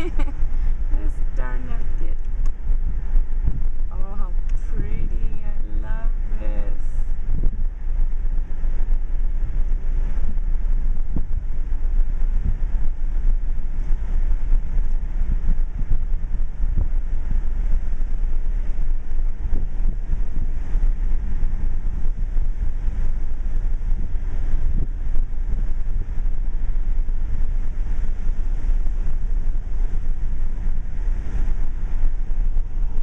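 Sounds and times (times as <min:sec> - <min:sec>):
road and engine rumble in car: 0:00.0 - 0:33.0.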